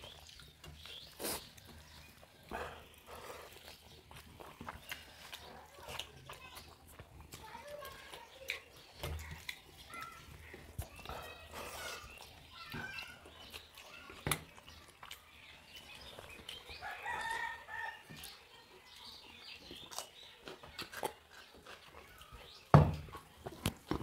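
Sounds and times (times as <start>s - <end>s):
fingers mixing rice and chewing: 0.0s - 24.0s.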